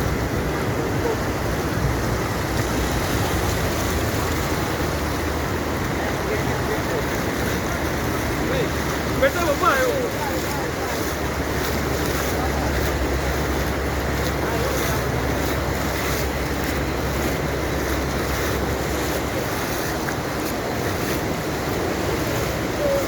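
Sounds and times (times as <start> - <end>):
floodwater rushing across road: 0.0 - 23.0.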